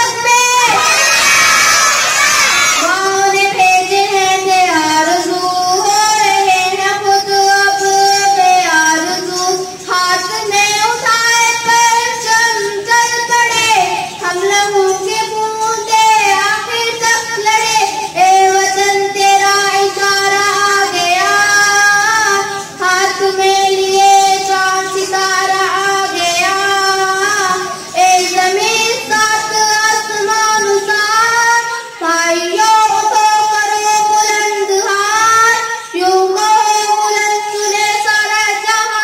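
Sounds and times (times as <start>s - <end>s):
boy singing in high voice: 0.0s - 39.0s.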